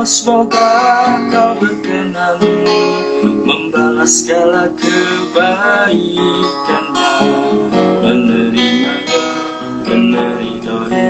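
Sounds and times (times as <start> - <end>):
man singing slow song: 0.0 - 11.0
strummed guitar: 0.0 - 11.0.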